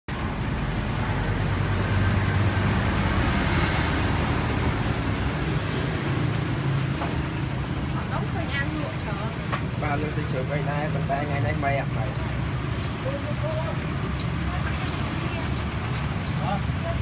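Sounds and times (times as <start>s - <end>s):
motorbike and car engines passing: 0.1s - 17.0s.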